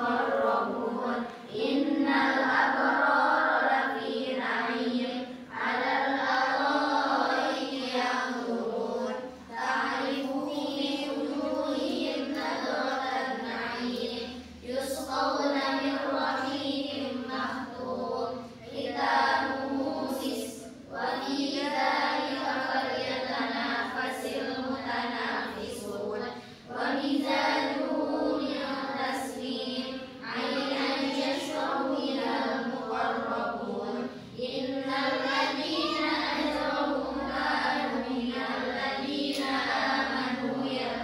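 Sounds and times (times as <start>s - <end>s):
girls reciting aloud together: 0.0s - 41.0s.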